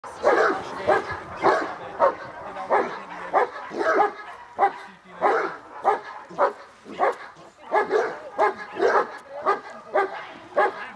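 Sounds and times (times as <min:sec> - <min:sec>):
dog barking deeply: 0:00.1 - 0:10.9.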